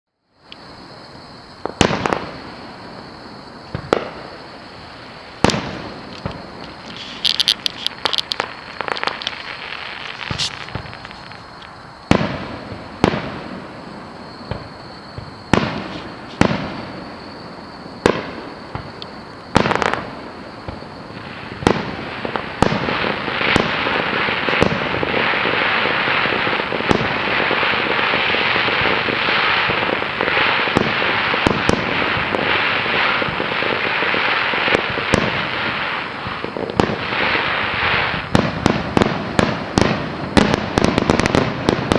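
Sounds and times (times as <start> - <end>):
fireworks crackle: 0.3 - 41.9
fireworks bangs: 0.4 - 41.9.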